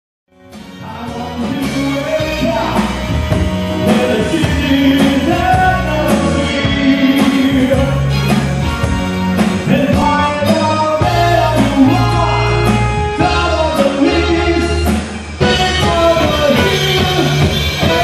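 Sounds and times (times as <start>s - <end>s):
live band playing: 0.3s - 18.0s
saxophone: 0.3s - 18.0s
person singing: 0.6s - 18.0s.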